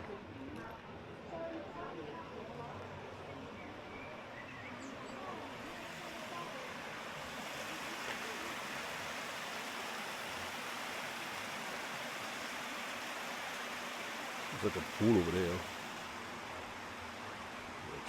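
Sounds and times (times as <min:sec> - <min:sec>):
running water: 0:00.0 - 0:18.0.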